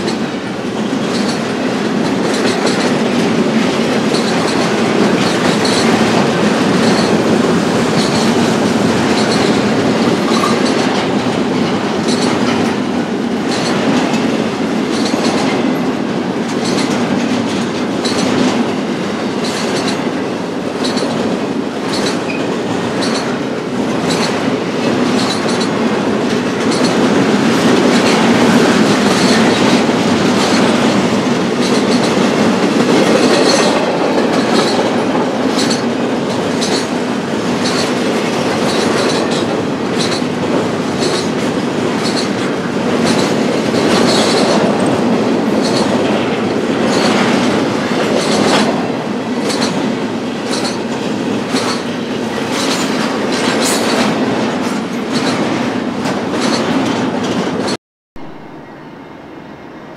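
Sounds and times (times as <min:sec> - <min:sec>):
wheels clicking over rail joints: 0:00.0 - 0:57.8
freight train rolling past: 0:00.0 - 0:59.9.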